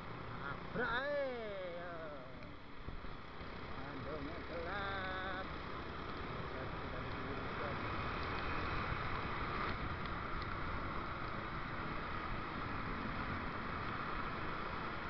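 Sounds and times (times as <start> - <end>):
motorcycle road noise: 0.0 - 15.0.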